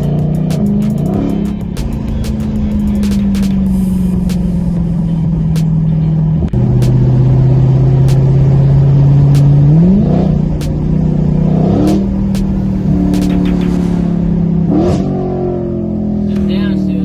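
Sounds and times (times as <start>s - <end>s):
loud car exhaust revving: 0.0s - 16.2s.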